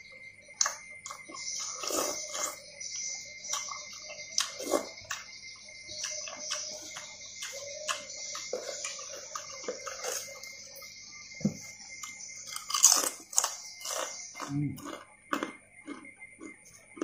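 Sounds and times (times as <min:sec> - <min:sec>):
person chewing crisp cracker: 0:00.6 - 0:10.8, 0:12.0 - 0:17.0.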